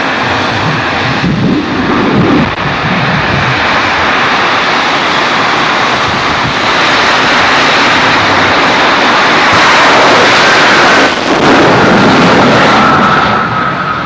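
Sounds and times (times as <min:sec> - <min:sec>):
racing car engine running loud: 0:00.0 - 0:14.0.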